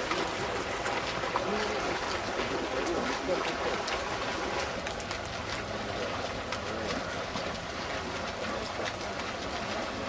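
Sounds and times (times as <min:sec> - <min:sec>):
water splashing from swim strokes: 0:00.0 - 0:10.0.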